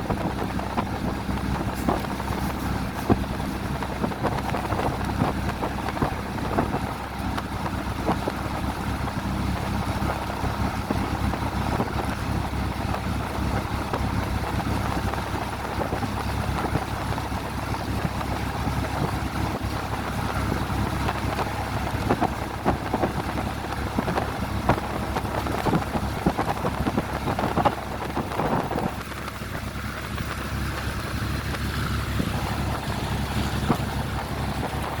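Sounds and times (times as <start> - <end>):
train rumbling and rattling: 0.0 - 35.0.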